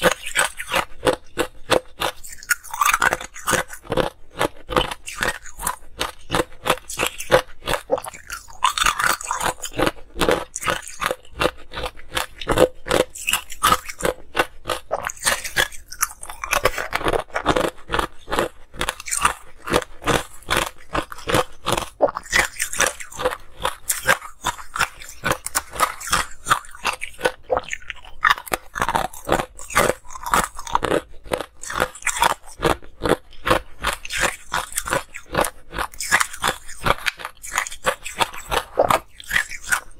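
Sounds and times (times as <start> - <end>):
ice cubes crunched: 0.0 - 39.9.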